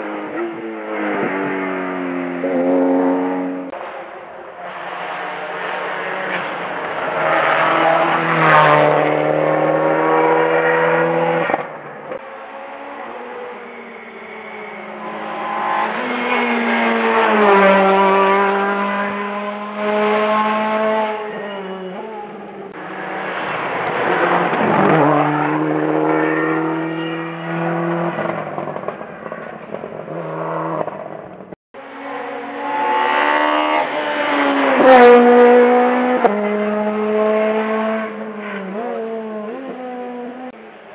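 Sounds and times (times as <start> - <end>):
rally cars passing at speed: 0.0 - 40.9.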